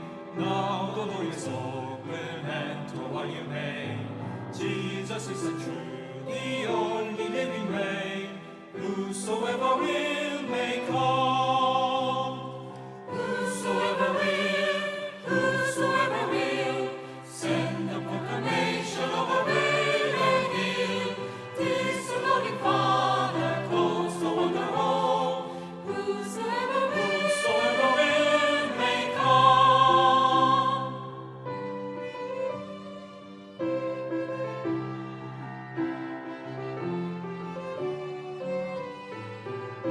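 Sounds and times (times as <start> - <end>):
choir singing a hymn: 0.0 - 33.3.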